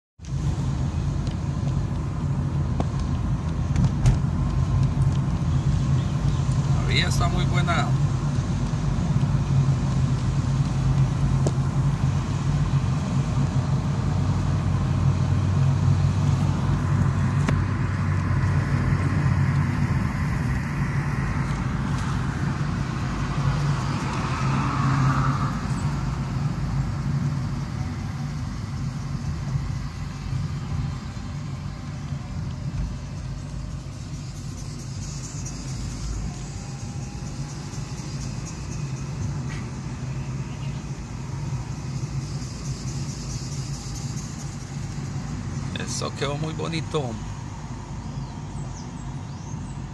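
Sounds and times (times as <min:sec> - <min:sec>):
car engine and road noise: 0:00.2 - 0:49.9.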